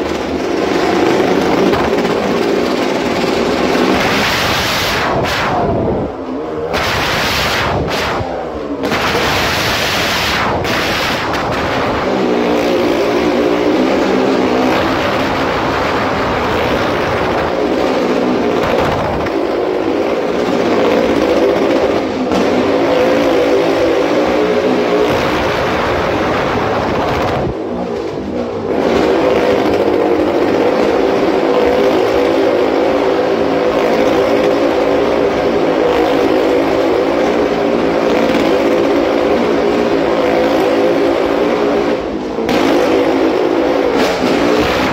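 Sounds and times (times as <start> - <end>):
motorcycle engine running hard: 0.0 - 44.9.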